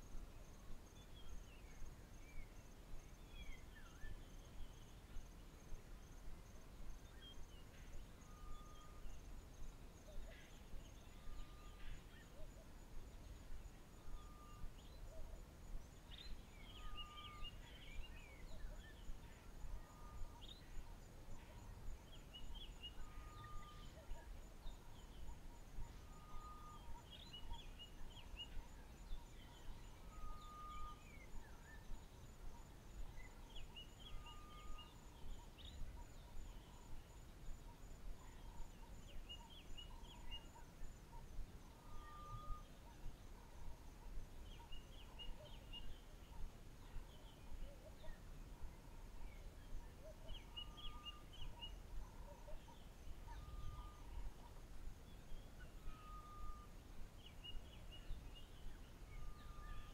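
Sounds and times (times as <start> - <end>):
faint high pulsing buzz: 0.0 - 59.9.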